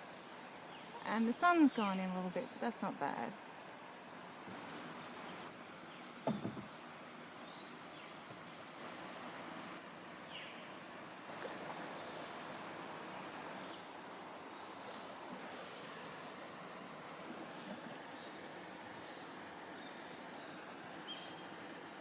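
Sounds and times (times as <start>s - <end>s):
river and rainforest ambience: 0.0s - 22.0s.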